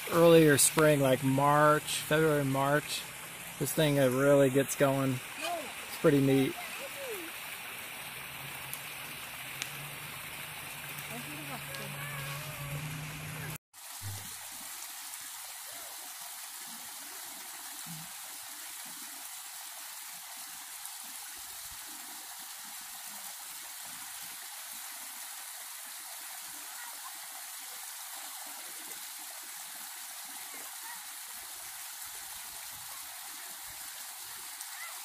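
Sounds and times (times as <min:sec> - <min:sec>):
waterfall splashing over rocks: 0:00.0 - 0:35.0.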